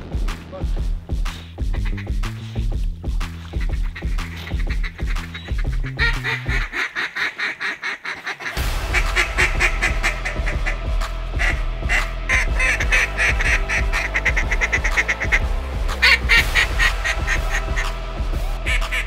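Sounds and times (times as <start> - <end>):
duck call quacking: 1.6 - 2.6, 3.4 - 19.0.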